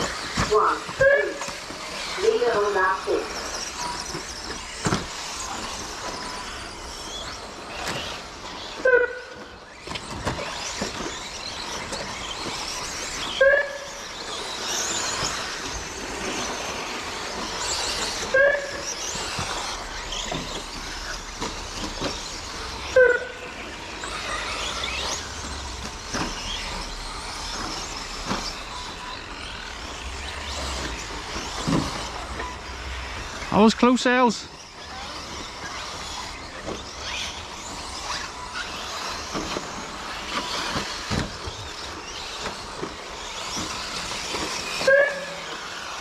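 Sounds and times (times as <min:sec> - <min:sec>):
electric motor whines: 0:00.0 - 0:46.0
rc trucks racing: 0:00.0 - 0:46.0.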